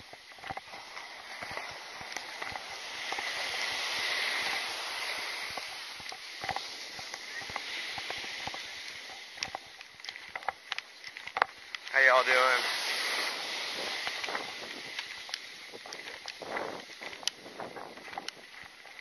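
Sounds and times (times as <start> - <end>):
footsteps in sand: 0.0 - 19.0
surf washing up beach: 0.0 - 19.0.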